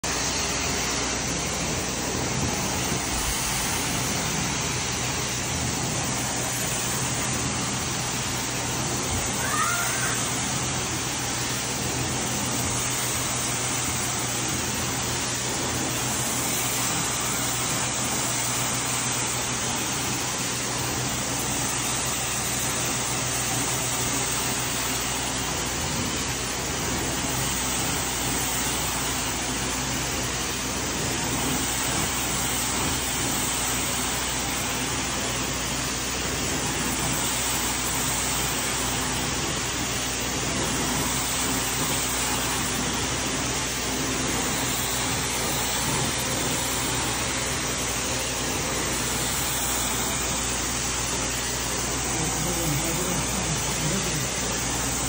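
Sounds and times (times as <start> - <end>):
carpet extraction vacuum rushing: 0.0 - 55.0.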